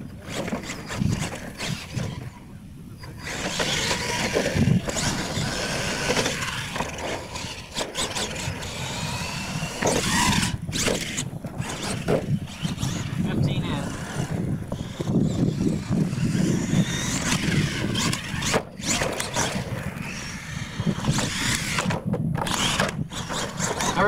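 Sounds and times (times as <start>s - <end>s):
toy truck motor whine: 0.1s - 24.0s.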